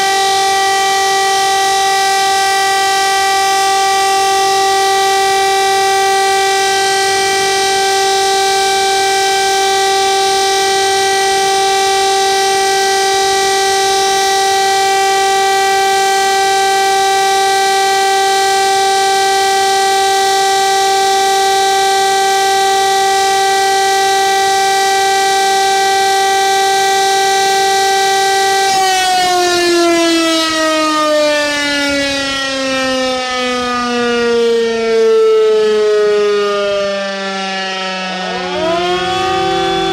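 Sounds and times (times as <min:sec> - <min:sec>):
rotary siren wailing: 0:00.0 - 0:39.9.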